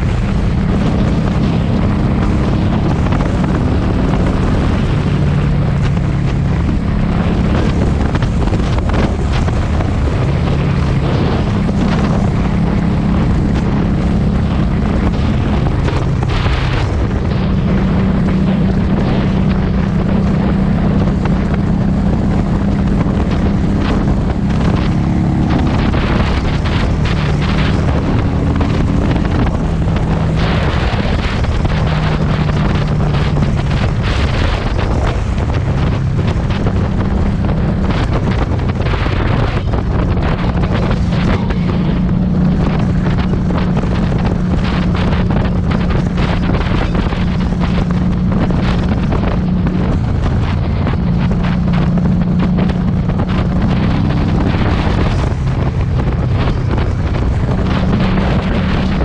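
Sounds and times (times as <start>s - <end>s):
motorcycle engine running: 0.0s - 59.0s
wind buffeting on microphone: 0.0s - 59.0s.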